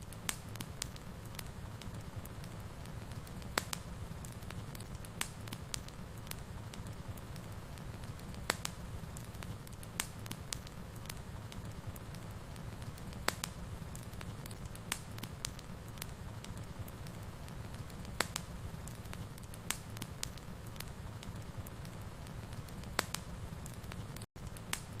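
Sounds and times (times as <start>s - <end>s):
low rumble of flames: 0.0s - 25.0s
wood fire sharp pops: 0.0s - 25.0s.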